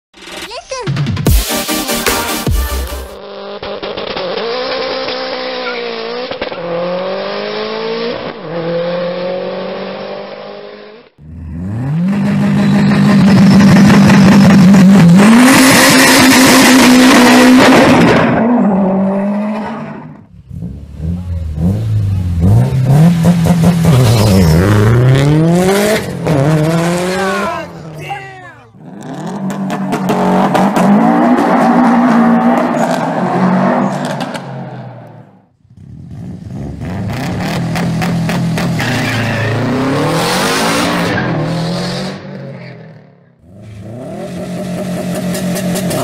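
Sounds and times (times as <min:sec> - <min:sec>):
car engines revving on limiter: 0:03.2 - 0:28.0, 0:28.8 - 0:46.0.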